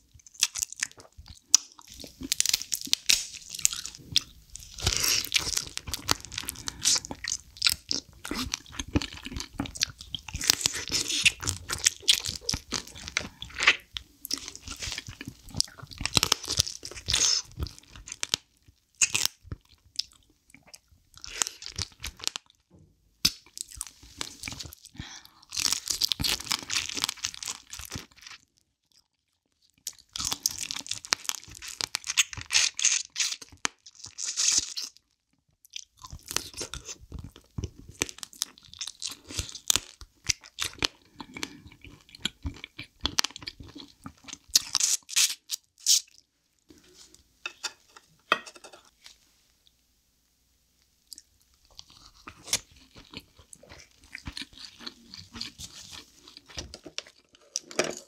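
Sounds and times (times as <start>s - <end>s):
chewing and crunching crab: 0.1s - 22.6s, 23.3s - 46.3s, 51.1s - 58.0s.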